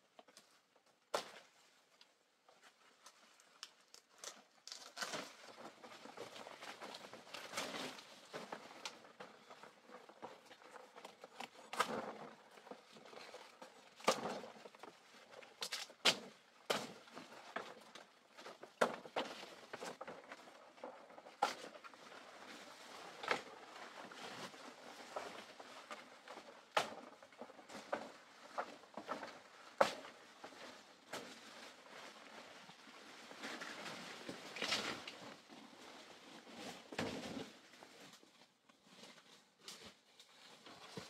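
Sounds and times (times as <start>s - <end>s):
leaves and stems rustling: 2.8s - 41.0s.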